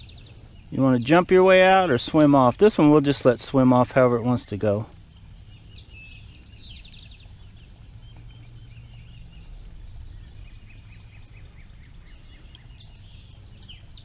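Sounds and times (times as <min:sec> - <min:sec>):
low steady rumble: 0:00.0 - 0:14.0
wild birds chirping: 0:00.0 - 0:14.0.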